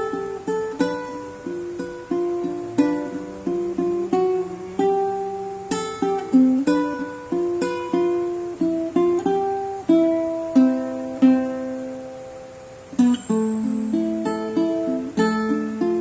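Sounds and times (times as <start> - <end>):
plucked string instrument melody: 0.0 - 16.0.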